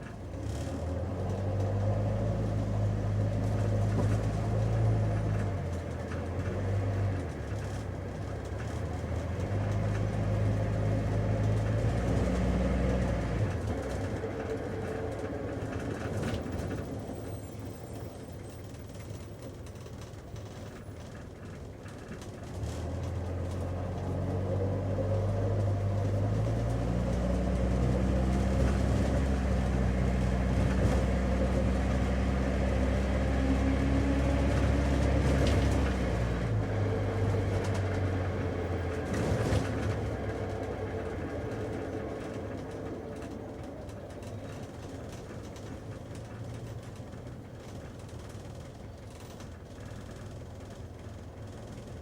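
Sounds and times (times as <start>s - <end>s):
car engine hum: 0.0s - 52.0s
road noise: 0.0s - 52.0s.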